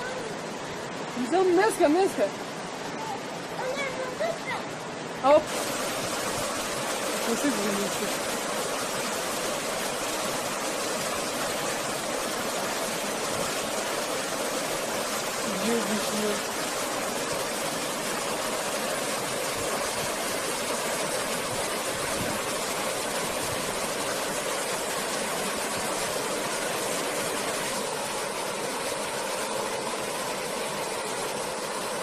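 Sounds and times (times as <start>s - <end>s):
river rushing over rocks: 0.0s - 32.0s.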